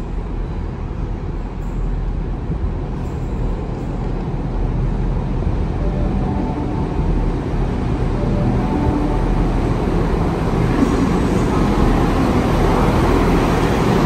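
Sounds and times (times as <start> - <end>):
faint train whine: 0.0 - 14.0
train rumble in tunnel: 0.0 - 14.0.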